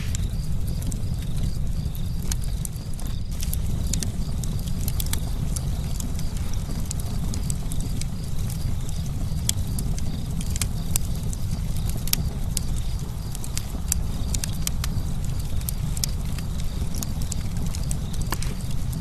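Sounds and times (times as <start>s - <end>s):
campfire burning: 0.0s - 19.0s.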